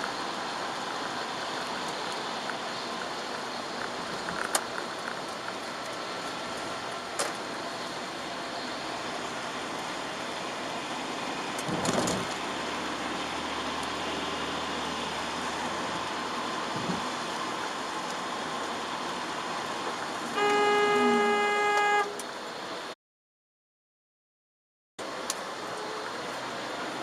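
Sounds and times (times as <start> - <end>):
low engine hum: 0.0 - 22.9
rain: 0.0 - 23.0, 25.0 - 27.0
tyres hissing on wet road: 0.0 - 23.0, 25.0 - 27.0.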